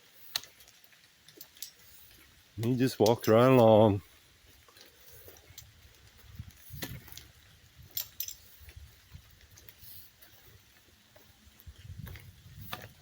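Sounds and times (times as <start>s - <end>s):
soft footsteps: 0.2s - 13.0s.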